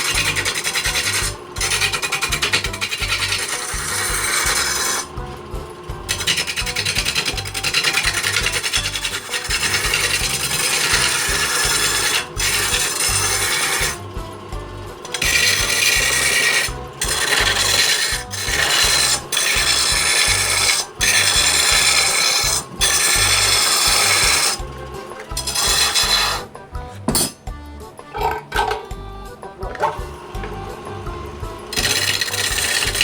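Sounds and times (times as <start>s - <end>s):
lathe tool rasping on wood: 0.0s - 27.5s, 28.2s - 33.0s
background music with beat: 0.0s - 33.0s.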